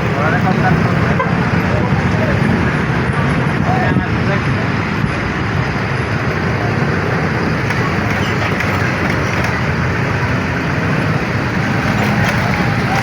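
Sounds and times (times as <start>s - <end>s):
heavy vehicles passing: 0.0s - 13.0s
road traffic rumble: 0.0s - 13.0s.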